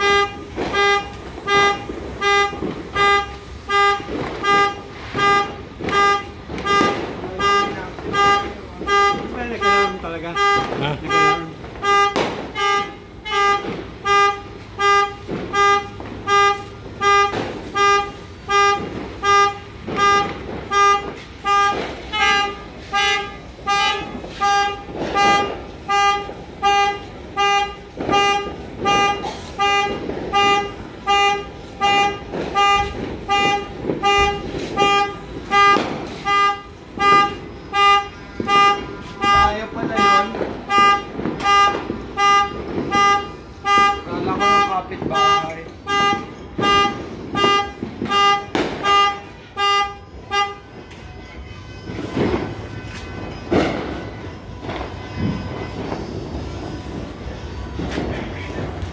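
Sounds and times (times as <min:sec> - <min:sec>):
car alarm beeping: 0:00.0 - 0:50.8
firecracker bangs: 0:00.0 - 0:58.9.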